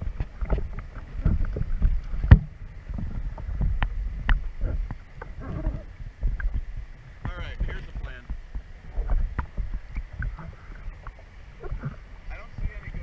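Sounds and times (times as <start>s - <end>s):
water sloshing against canoe: 0.0s - 13.0s.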